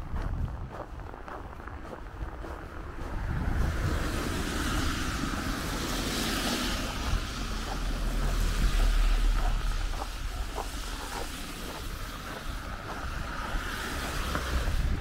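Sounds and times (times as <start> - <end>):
low rumble: 0.0 - 15.0
tyre noise of passing traffic: 0.0 - 15.0.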